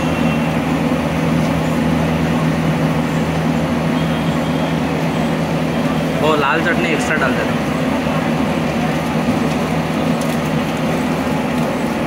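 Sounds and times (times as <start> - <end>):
hot oil hissing and bubbling: 0.0 - 12.0
low mechanical hum: 0.0 - 12.0.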